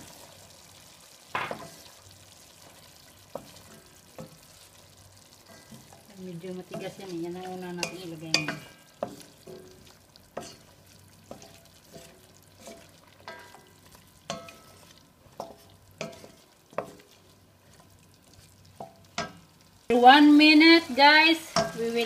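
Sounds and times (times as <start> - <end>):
sauce sizzling: 0.0 - 22.0
wooden spatula scraping a wok: 1.4 - 19.4.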